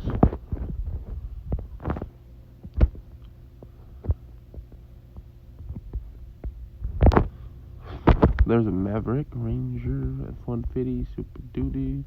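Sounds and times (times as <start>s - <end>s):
microphone clicks and thumps: 0.0s - 11.8s
low electrical hum: 0.0s - 12.0s.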